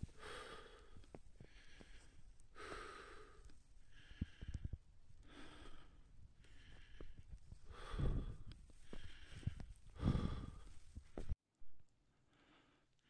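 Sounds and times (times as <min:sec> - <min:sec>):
person breathing rhythmically: 0:00.0 - 0:11.4, 0:12.1 - 0:13.0.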